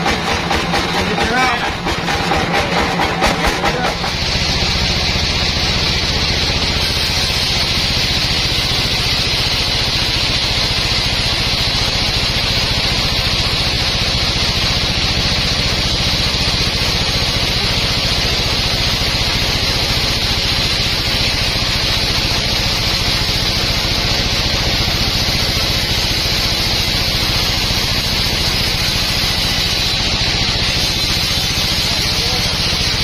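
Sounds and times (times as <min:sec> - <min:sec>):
sawmill engine running: 0:00.0 - 0:33.0.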